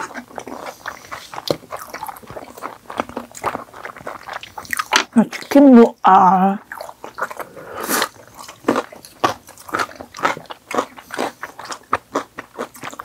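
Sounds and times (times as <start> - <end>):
chewing and biting fried chicken: 0.0 - 5.8, 6.6 - 13.0.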